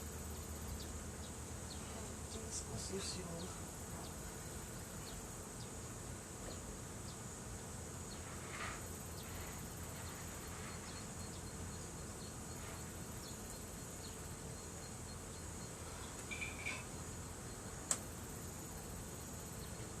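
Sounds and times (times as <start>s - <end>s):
insects chorus: 0.0s - 20.0s.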